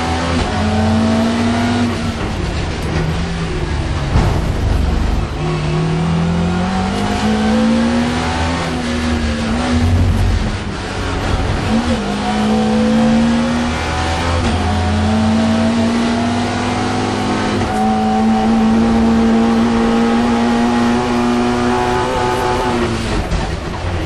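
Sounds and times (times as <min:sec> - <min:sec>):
car engine revving hard: 0:00.0 - 0:02.2, 0:05.2 - 0:23.3.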